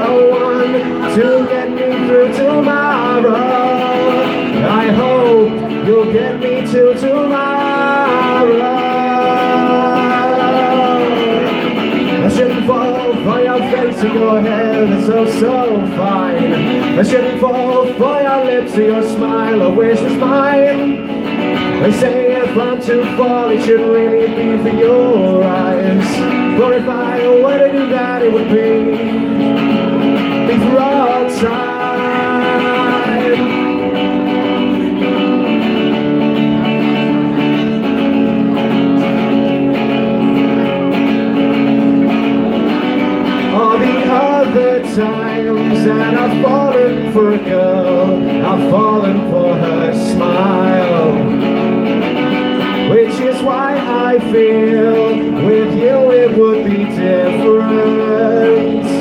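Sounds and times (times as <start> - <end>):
electric guitar: 0.0 - 59.0
man singing: 0.0 - 59.0.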